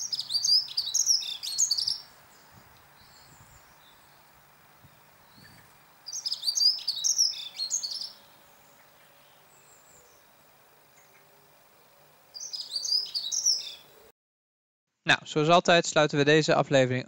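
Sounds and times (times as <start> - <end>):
bird singing high warble: 0.0 - 14.1.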